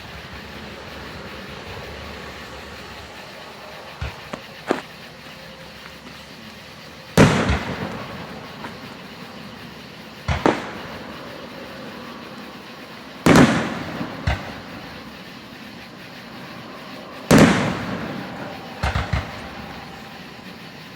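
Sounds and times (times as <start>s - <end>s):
smaller firework pops: 0.0s - 16.2s, 17.2s - 20.9s
firework shells booming: 0.0s - 20.9s.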